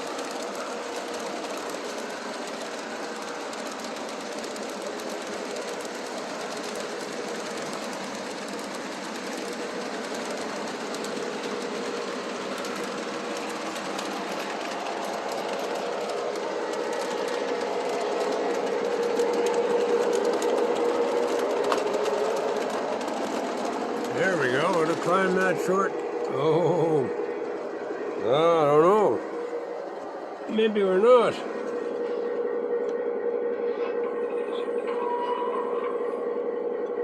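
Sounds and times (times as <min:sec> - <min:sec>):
wheels rolling on rails: 0:00.0 - 0:30.6.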